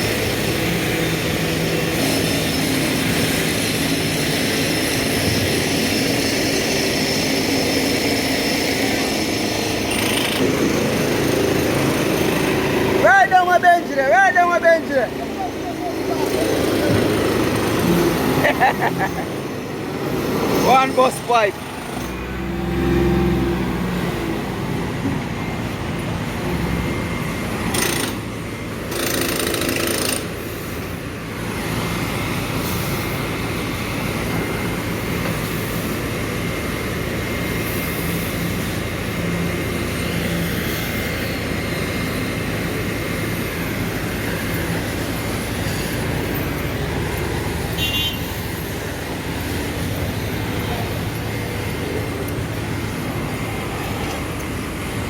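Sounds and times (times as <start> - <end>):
heavy diesel engine pulsing: 0.0 - 55.0.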